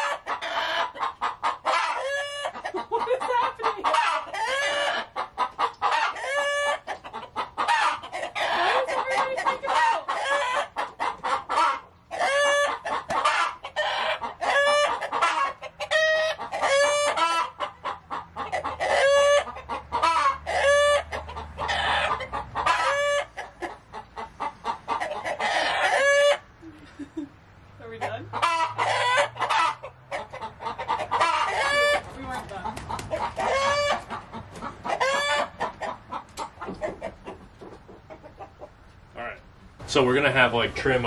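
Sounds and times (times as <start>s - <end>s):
chickens calling: 0.0s - 41.0s.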